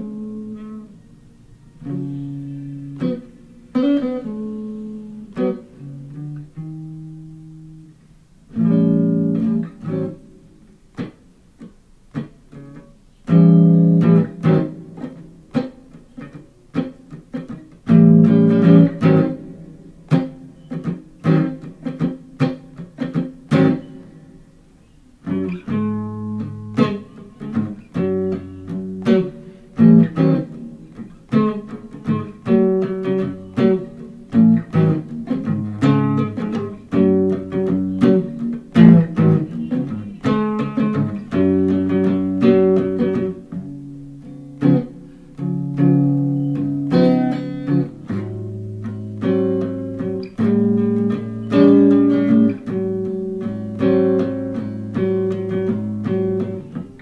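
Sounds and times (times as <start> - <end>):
electric guitar playing blues: 0.0 - 57.0.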